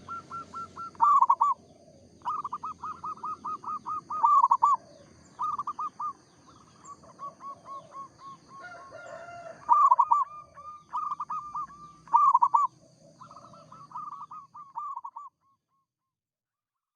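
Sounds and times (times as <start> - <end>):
dove cooing: 0.0 - 15.3.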